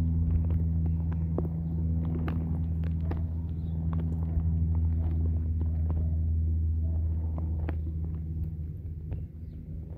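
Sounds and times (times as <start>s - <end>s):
low mechanical hum: 0.0s - 9.9s.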